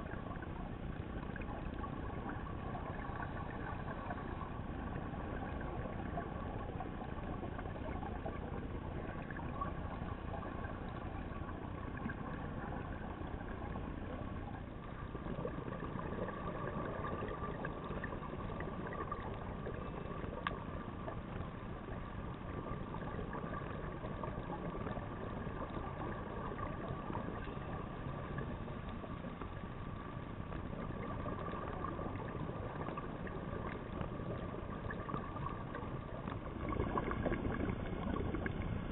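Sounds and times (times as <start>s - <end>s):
faint steady hum: 0.0s - 38.9s
muffled underwater rumble and hiss: 0.0s - 38.9s.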